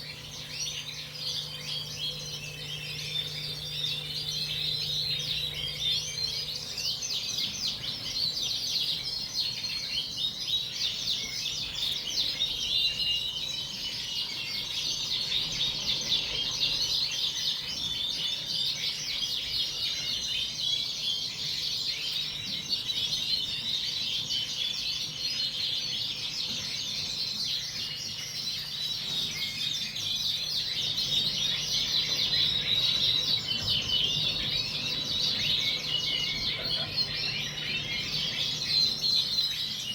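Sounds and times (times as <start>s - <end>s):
canaries chirping and singing: 0.0s - 39.9s.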